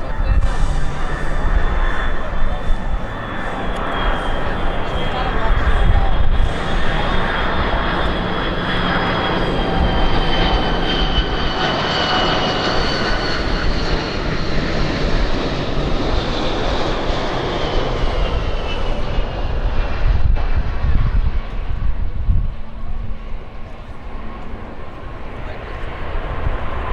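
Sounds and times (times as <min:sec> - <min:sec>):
jet engine roar with whine: 0:00.0 - 0:26.9.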